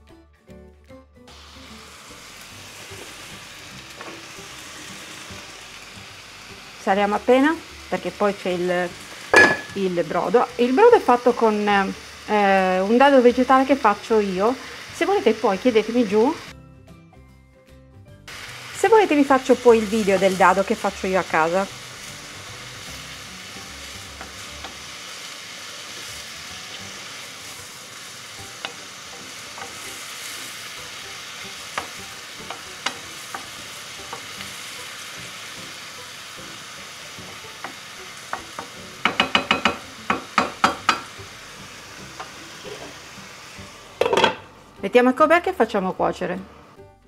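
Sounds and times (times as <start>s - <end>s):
mushrooms sizzling in a frying pan: 1.3s - 16.6s, 18.2s - 46.9s.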